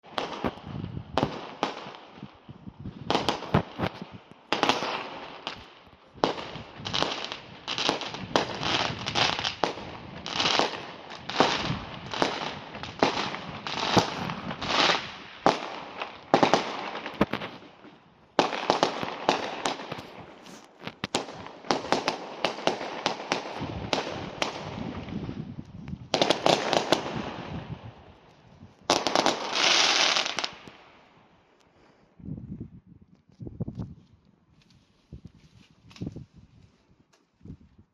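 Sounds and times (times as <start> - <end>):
fireworks bangs and crackles: 0.0 - 31.3.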